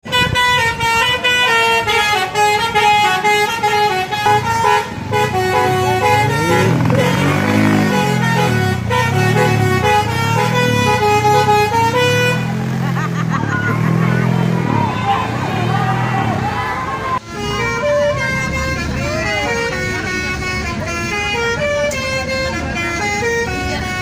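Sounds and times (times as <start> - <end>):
multi-tone musical bus horn: 0.0 - 24.0.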